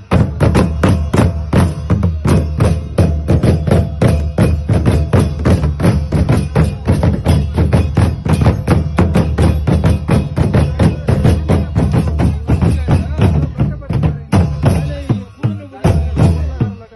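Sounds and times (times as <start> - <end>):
rapid folk drumming: 0.0 - 16.9.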